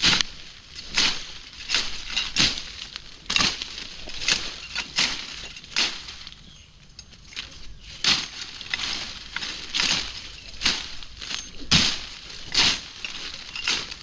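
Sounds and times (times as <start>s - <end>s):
footsteps crunching dry leaves: 0.0s - 6.6s, 7.4s - 14.0s.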